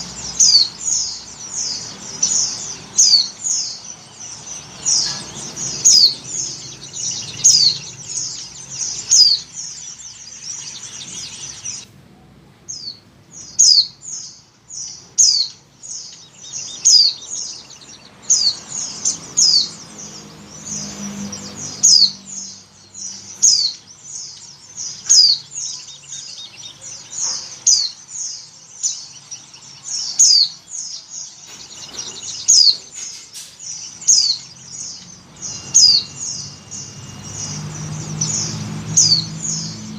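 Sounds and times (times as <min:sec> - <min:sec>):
bird chirping high-pitched: 0:00.0 - 0:11.9, 0:12.7 - 0:39.9.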